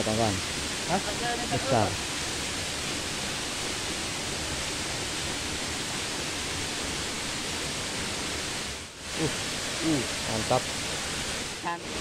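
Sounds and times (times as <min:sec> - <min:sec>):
rocky stream flowing: 0:00.0 - 0:12.0.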